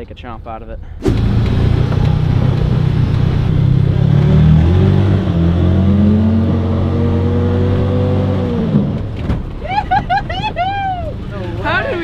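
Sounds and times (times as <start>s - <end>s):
utility vehicle engine running: 1.0s - 12.0s.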